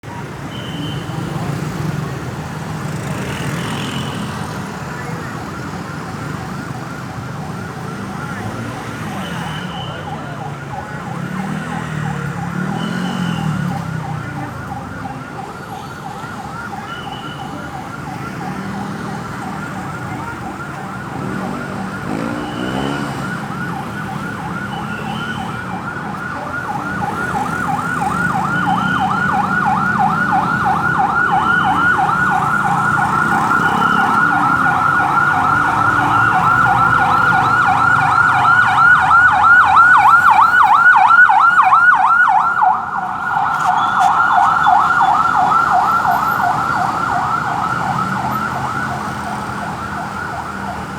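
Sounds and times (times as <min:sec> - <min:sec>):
passing road traffic: 0:00.0 - 0:50.9
ambulance siren warbling: 0:00.2 - 0:50.9.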